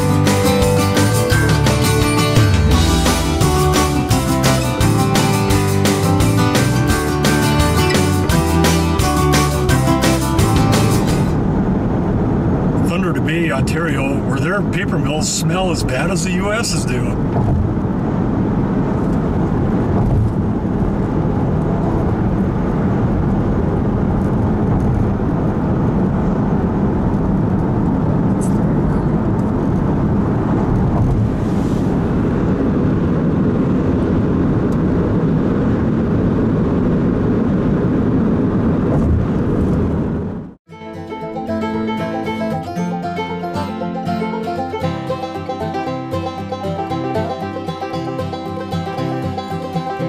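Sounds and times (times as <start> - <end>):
car engine running: 0.0 - 40.6.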